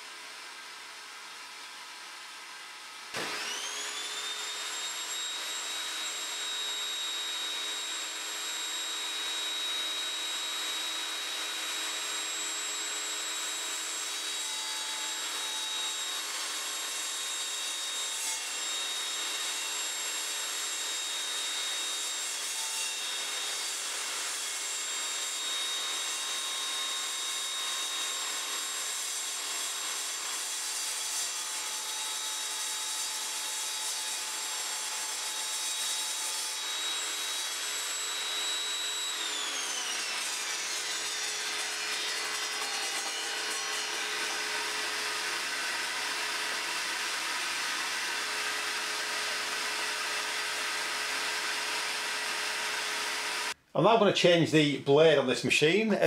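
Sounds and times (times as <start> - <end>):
table saw cutting: 0.0 - 54.0
saw motor whine: 0.1 - 53.6.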